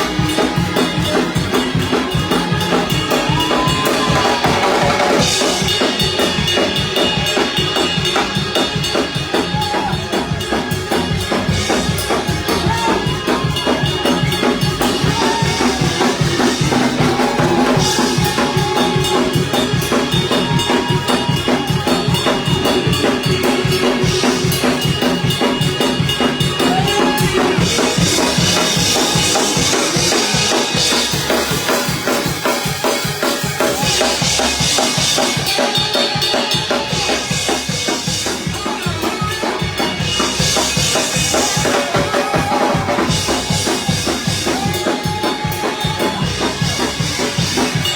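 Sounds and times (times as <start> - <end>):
church band playing fast music: 0.0 - 47.9
drum kit beat: 0.0 - 47.9.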